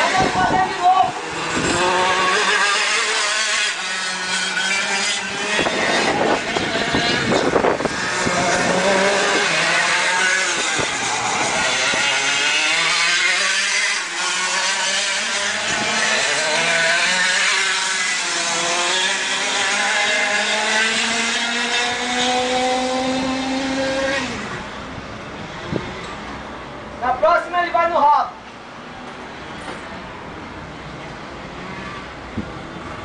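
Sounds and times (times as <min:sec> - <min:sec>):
kart engines revving high: 0:00.0 - 0:33.0.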